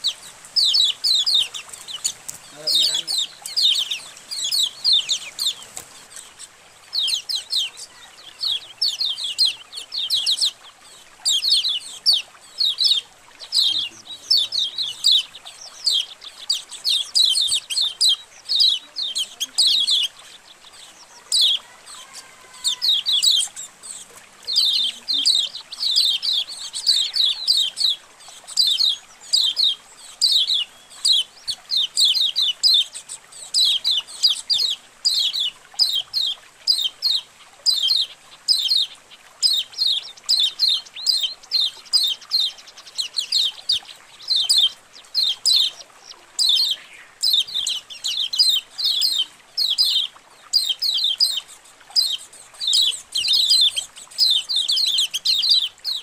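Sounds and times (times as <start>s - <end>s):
small birds chirping together: 0.0s - 56.0s.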